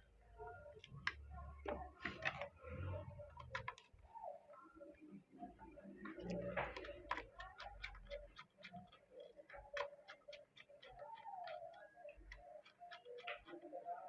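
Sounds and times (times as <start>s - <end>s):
plastic parts clicking and tapping: 0.6s - 4.0s, 6.0s - 14.0s.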